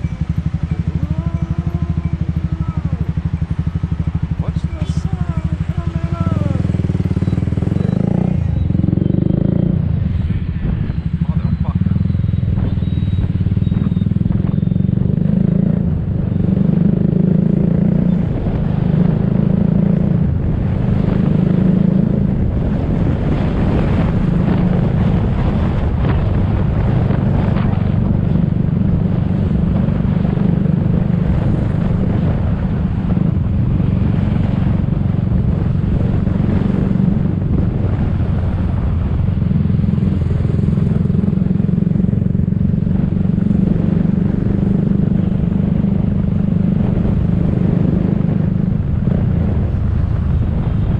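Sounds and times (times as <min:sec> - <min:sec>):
scooter engine drone: 0:00.0 - 0:50.9
traffic noise: 0:00.0 - 0:50.9.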